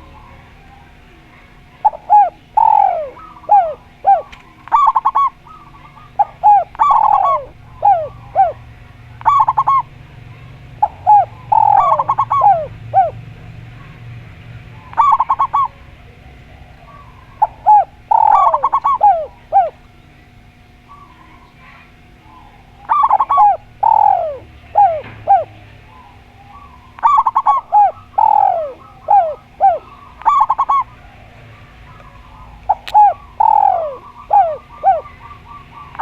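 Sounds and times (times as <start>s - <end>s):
doves cooing: 0.0s - 36.0s
faint steady hum: 0.0s - 36.0s.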